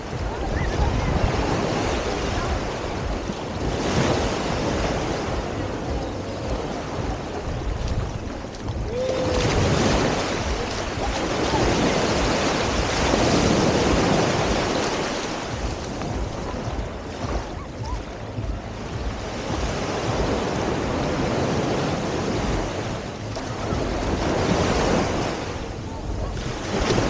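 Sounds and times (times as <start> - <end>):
ocean surf on beach: 0.0 - 27.0
wind buffeting microphone: 0.0 - 27.0.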